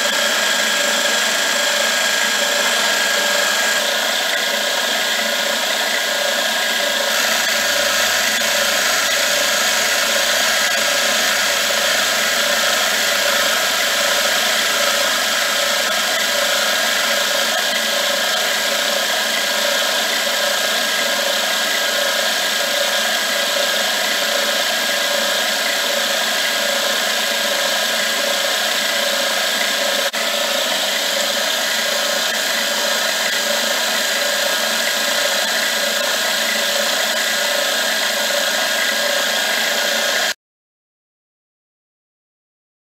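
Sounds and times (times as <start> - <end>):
high machine whine: 0.0 - 40.4
milling machine cutting: 0.0 - 40.4.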